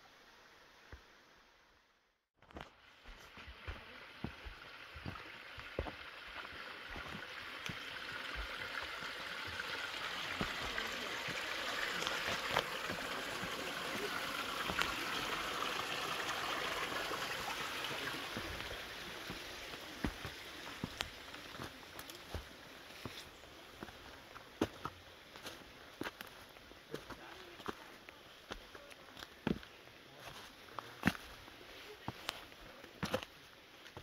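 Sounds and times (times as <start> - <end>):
footsteps on rocky trail: 2.4 - 15.2, 18.0 - 34.0
brook running over rocks: 2.4 - 34.0.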